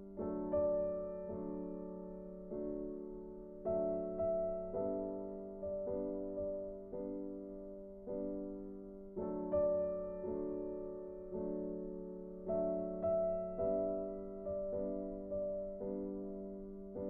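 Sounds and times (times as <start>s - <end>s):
slow soft piano: 0.0s - 17.0s.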